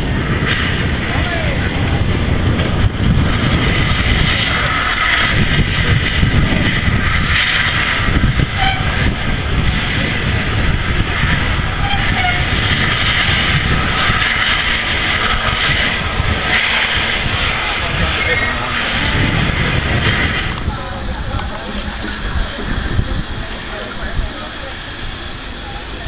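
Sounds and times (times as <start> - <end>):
steam locomotive rumbling: 0.0 - 26.0.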